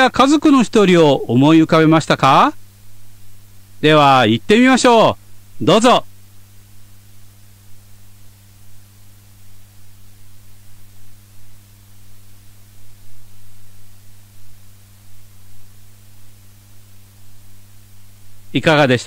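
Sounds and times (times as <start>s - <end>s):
constant hiss: 0.0s - 19.0s
electrical hum: 0.0s - 19.0s.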